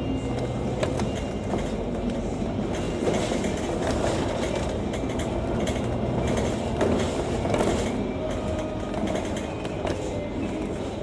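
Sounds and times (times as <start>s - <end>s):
bus engine and road rumble: 0.0s - 11.0s
bodywork clicks and rattles: 0.4s - 10.6s.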